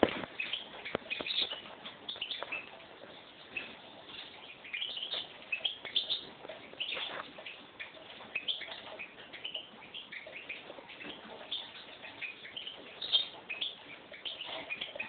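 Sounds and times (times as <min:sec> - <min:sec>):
finch singing: 0:00.0 - 0:15.0.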